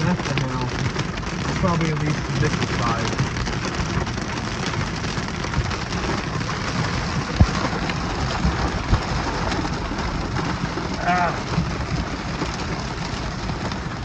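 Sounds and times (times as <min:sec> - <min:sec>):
hail and rain pelting: 0:00.0 - 0:14.0.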